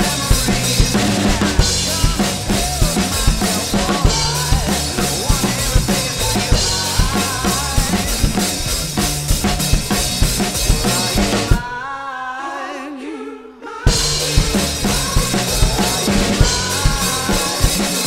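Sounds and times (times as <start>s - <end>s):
electric guitar and bass backing: 0.0s - 11.7s, 13.9s - 18.0s
rock drum groove: 0.0s - 11.7s, 13.9s - 18.0s.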